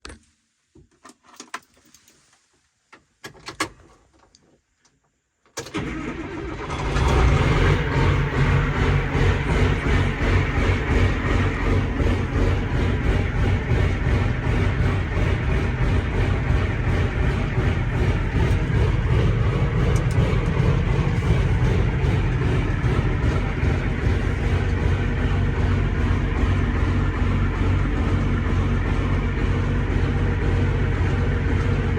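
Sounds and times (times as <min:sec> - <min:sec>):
diesel tractor engine: 0:05.6 - 0:31.9.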